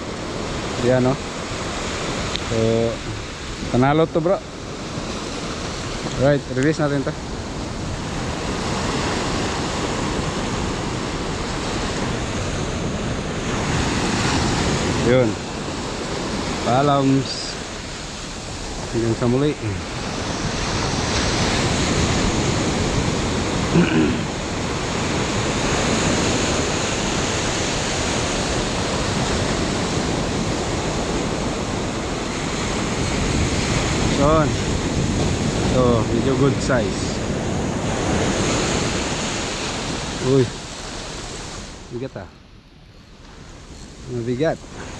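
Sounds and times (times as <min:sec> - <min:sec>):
waves breaking on beach: 0:00.0 - 0:44.9.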